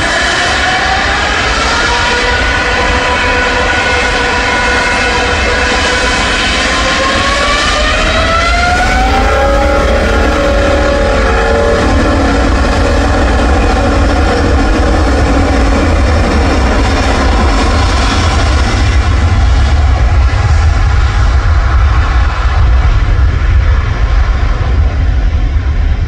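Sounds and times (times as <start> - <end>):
airliner engines whining: 0.0 - 26.0.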